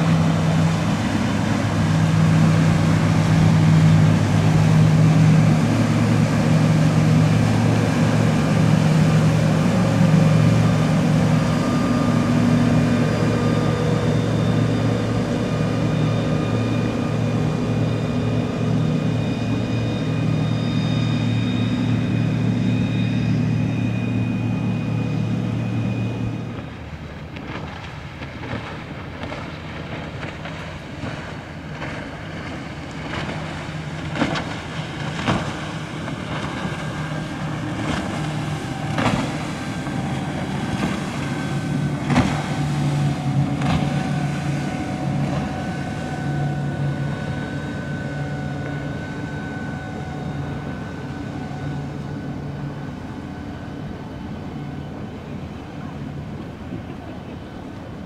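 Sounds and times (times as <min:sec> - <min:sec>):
boat engines humming: 0:00.0 - 0:58.0.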